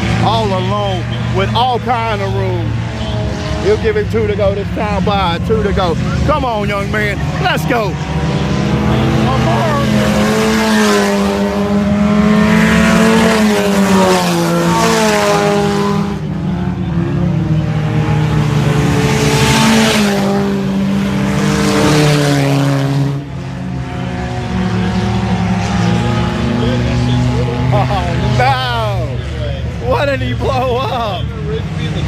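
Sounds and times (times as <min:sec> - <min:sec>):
race car engines passing: 0:00.0 - 0:32.0.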